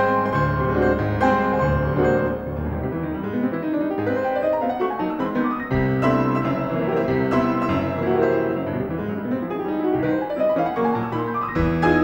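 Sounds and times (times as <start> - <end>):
solo classical piano: 0.0 - 12.0.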